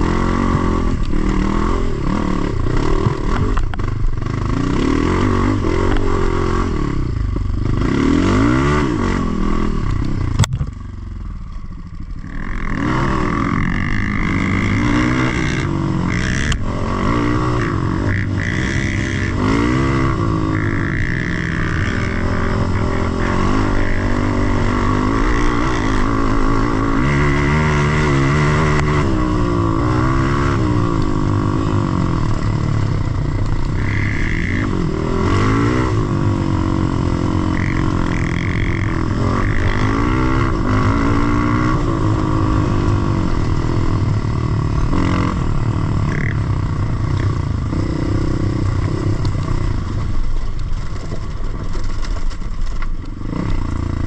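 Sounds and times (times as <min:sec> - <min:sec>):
dirt bike engine revving: 0:00.0 - 0:50.9, 0:53.1 - 0:54.0.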